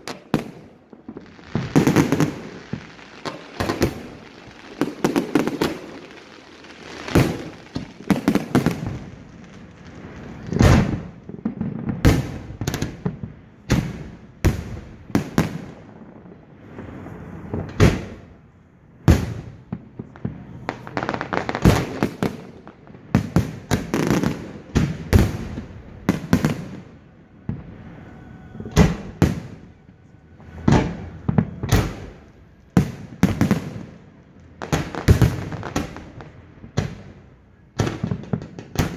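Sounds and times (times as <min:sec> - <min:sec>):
fireworks bursting with echo: 0:00.0 - 0:38.9.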